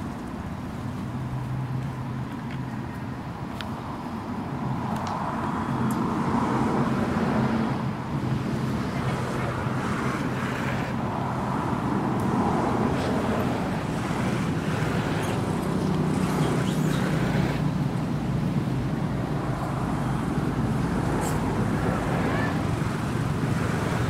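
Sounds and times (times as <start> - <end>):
windy hiss: 0.0 - 24.0.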